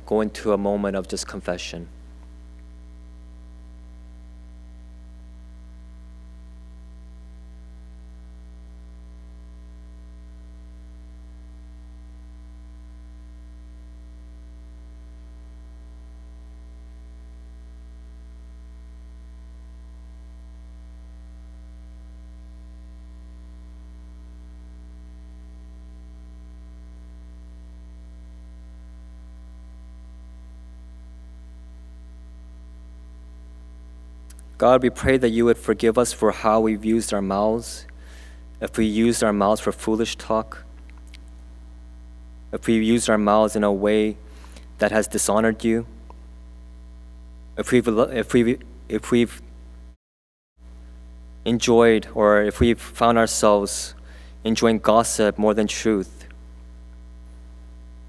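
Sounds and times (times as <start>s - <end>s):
low mains hum: 0.0s - 50.0s, 50.6s - 58.0s.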